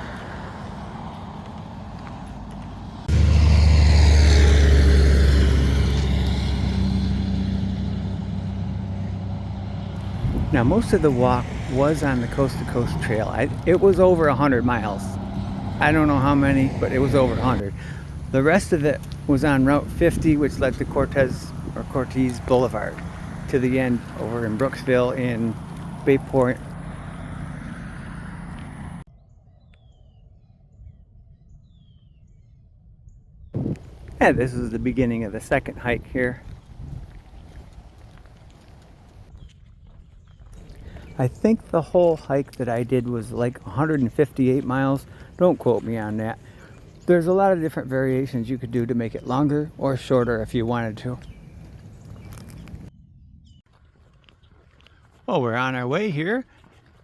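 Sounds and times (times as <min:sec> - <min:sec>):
vehicle engine hum: 0:00.0 - 0:29.1, 0:33.6 - 0:39.4, 0:40.4 - 0:52.9
birds chirping: 0:05.8 - 0:53.7.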